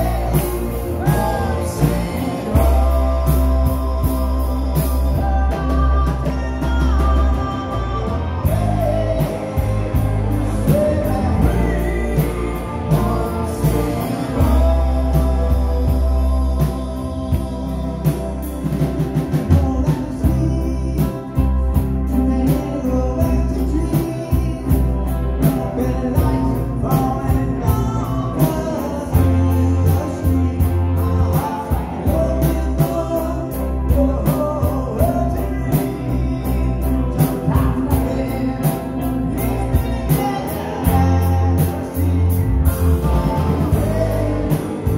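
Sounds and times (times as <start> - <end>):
bass guitar: 0.0 - 44.9
electric guitars: 0.0 - 44.9
lead vocal singing: 0.0 - 44.9.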